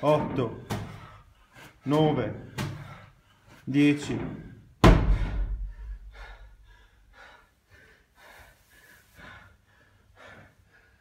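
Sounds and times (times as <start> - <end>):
person panting heavily: 0.6 - 3.7, 4.6 - 11.0.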